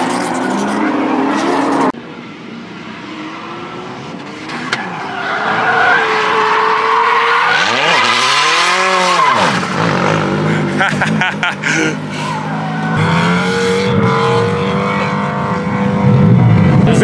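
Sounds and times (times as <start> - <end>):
car engine revving: 2.9 - 17.0.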